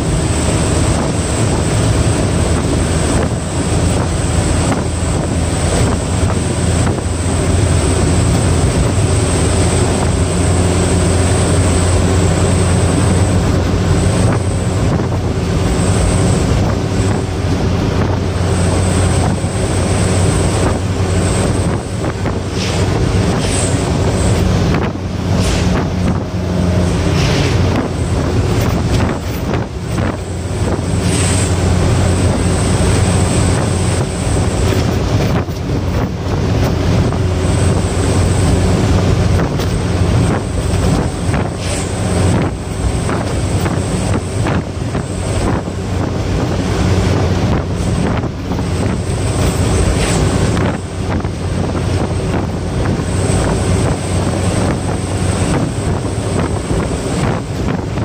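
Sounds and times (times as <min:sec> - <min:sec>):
road and wind noise: 0:00.0 - 0:58.0
truck engine droning: 0:00.0 - 0:58.0.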